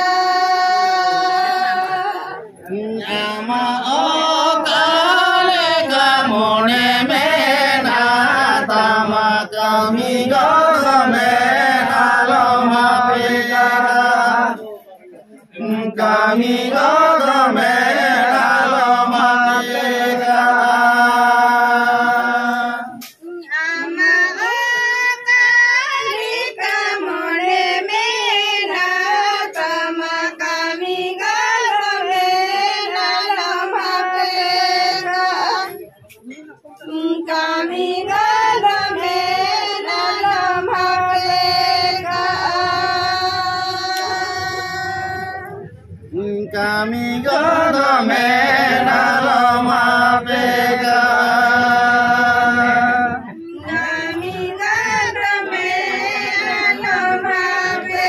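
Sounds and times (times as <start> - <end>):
group of people singing: 0.0 - 36.1, 36.8 - 58.0.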